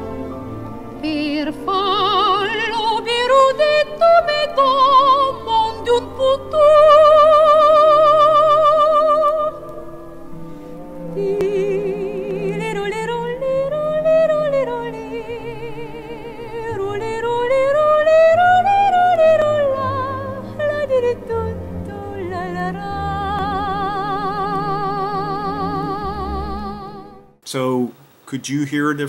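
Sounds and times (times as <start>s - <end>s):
piano: 0.0s - 27.4s
operatic singer with vibrato: 1.0s - 27.2s.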